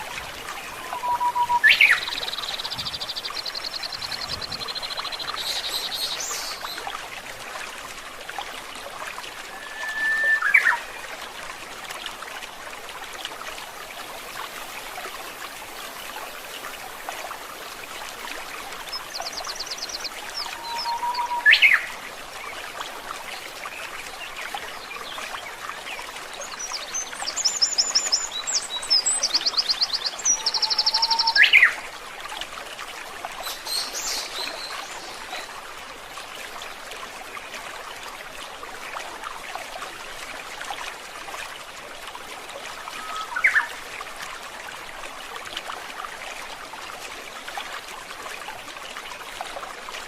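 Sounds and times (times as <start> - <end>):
stream flowing: 0.0 - 50.0.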